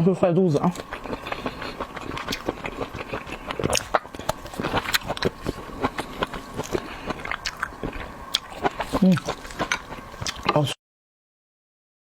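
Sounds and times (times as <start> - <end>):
mouth clicks and smacks: 0.6 - 10.7
person biting and chewing: 0.6 - 10.7.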